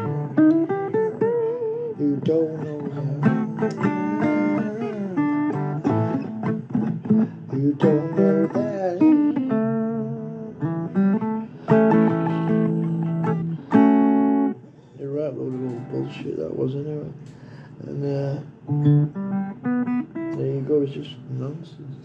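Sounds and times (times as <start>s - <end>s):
blues electric guitar: 0.0s - 16.5s, 18.0s - 21.4s.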